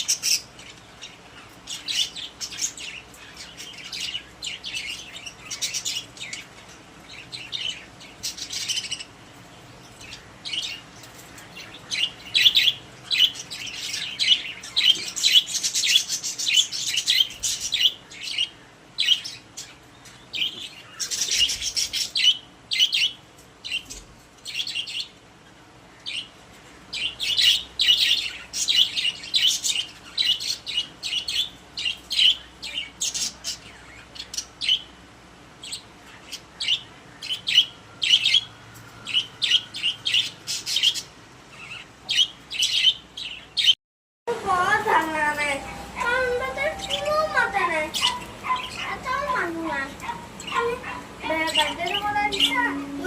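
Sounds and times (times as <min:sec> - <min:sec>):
budgerigars chirping: 0:00.0 - 0:09.2, 0:09.8 - 0:25.2, 0:26.9 - 0:35.0, 0:35.6 - 0:43.8, 0:44.7 - 0:53.0.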